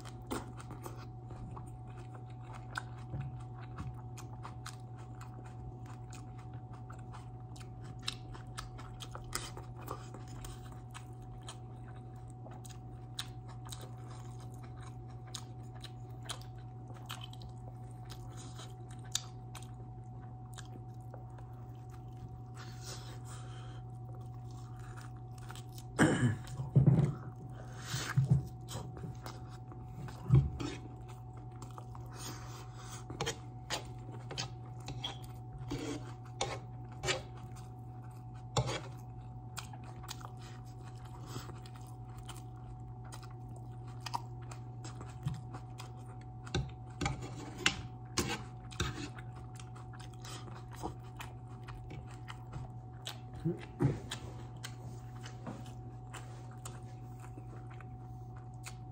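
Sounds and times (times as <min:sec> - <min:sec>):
person biting and chewing meat: 0:00.0 - 0:58.9.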